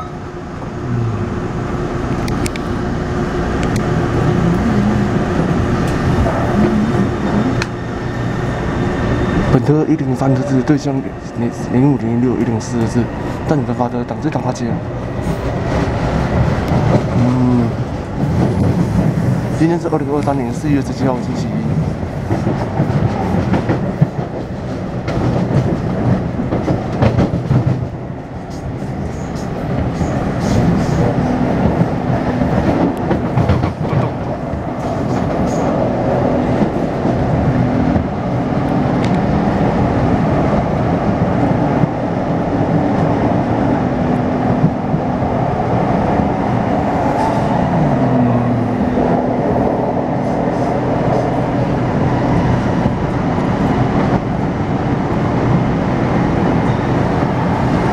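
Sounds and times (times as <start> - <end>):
train rumble and wheel clatter: 0.0 - 57.9.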